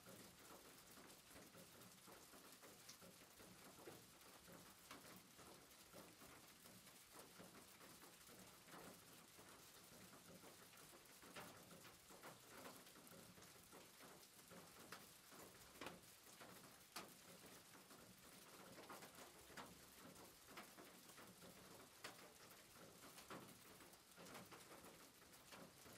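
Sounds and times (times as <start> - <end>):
faint room hiss: 0.0 - 25.9.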